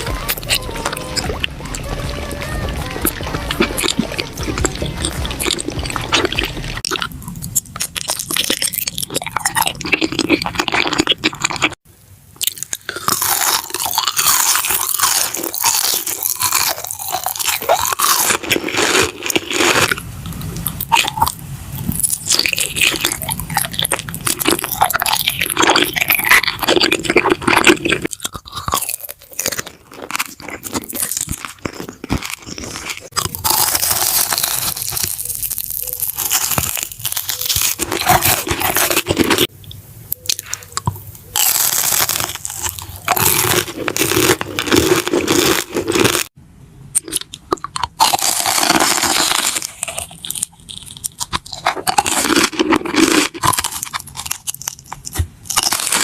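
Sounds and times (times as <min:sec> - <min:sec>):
crunchy chewing: 0:00.0 - 0:11.8, 0:12.4 - 0:46.4, 0:47.0 - 0:56.0.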